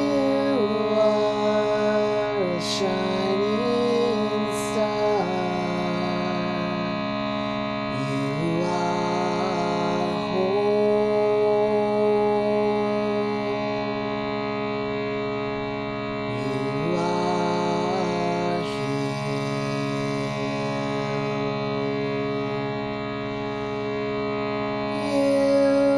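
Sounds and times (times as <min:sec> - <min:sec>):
person singing wordless chant: 0:00.0 - 0:14.2, 0:16.3 - 0:22.6, 0:24.9 - 0:25.9
meditation drone: 0:00.0 - 0:25.9.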